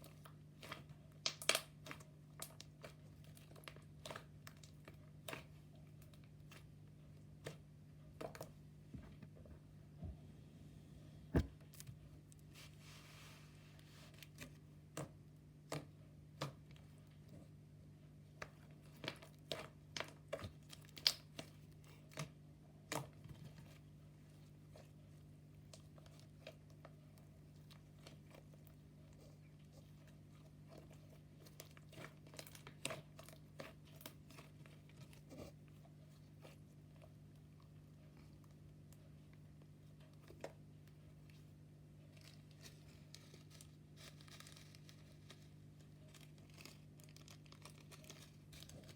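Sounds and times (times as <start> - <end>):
faint low hum: 0.0 - 48.9.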